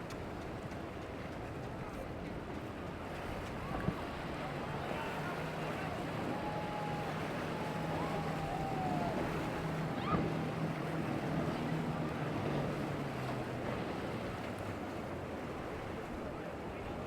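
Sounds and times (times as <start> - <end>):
boat engine humming: 0.0 - 17.0
waves washing: 0.0 - 17.0
wind: 0.0 - 17.0.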